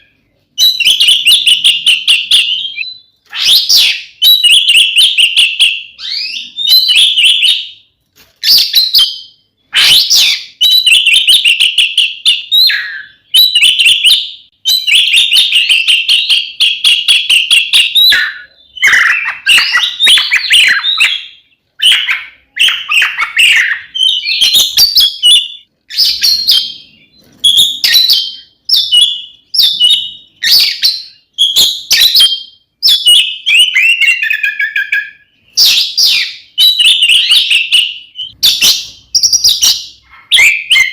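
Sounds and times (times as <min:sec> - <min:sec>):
magpie-robin singing trills: 0:00.0 - 0:40.9.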